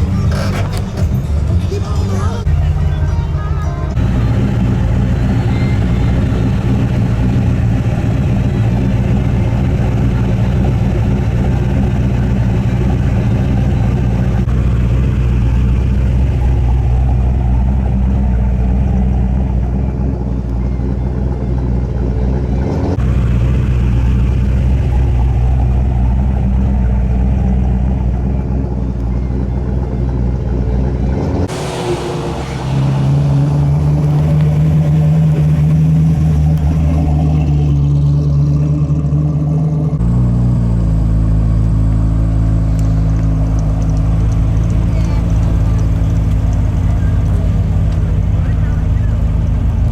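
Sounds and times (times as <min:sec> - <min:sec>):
car engine deep rumble: 0:00.0 - 0:49.9.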